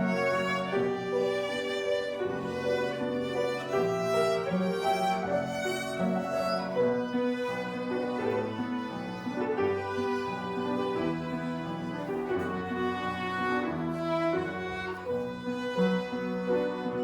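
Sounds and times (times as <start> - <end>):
child playing violin: 0.0 - 17.0.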